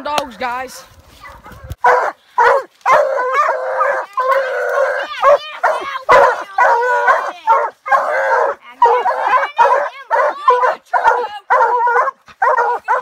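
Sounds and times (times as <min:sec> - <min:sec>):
dogs barking and bawling: 0:01.2 - 0:13.0.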